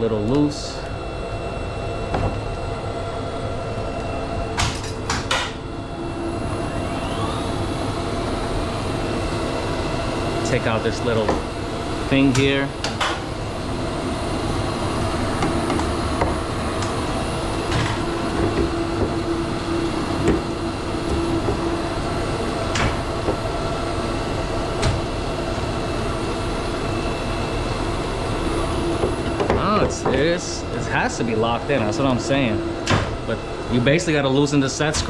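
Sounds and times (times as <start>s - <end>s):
machine running with hum: 0.0s - 35.0s.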